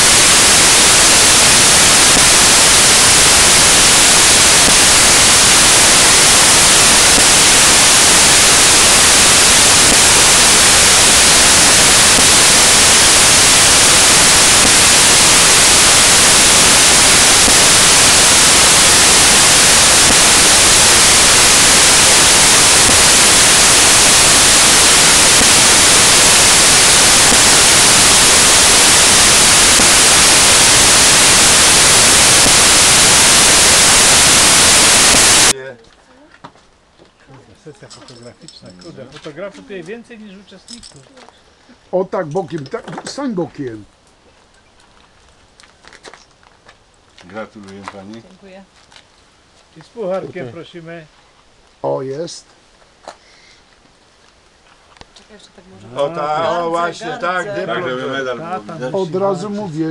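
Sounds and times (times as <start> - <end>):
static hiss: 0.0 - 36.8, 37.4 - 59.9.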